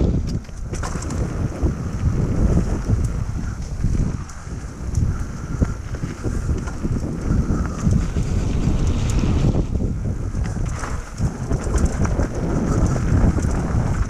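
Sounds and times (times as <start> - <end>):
bike rolling over rough trail: 0.0 - 14.0
wind buffeting microphone: 0.0 - 14.0.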